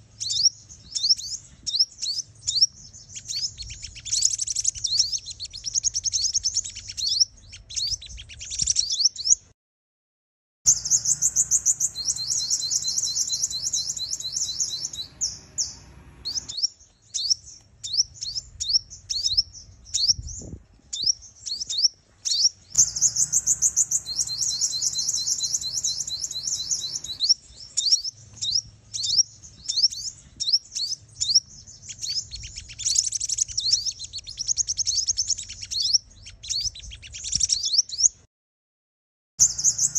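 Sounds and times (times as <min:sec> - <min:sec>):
bird chirps and trills: 0:00.1 - 0:09.4, 0:10.7 - 0:38.2, 0:39.4 - 0:39.9.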